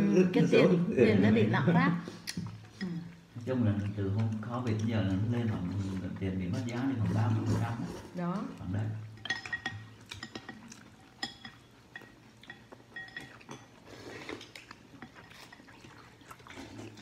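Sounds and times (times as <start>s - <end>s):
chopsticks and spoon clinking on bowls: 2.2s - 7.8s, 8.6s - 17.0s.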